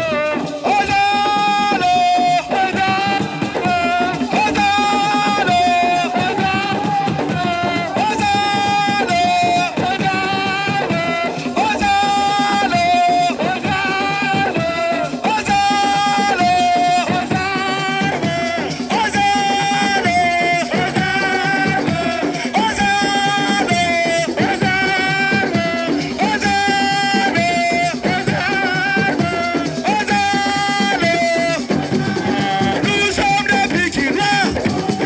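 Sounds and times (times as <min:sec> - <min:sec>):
drums and percussion: 0:00.0 - 0:35.0.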